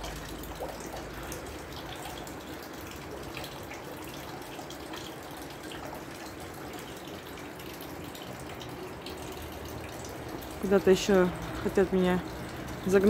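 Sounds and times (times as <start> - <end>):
water pouring into stone trough: 0.0 - 13.0.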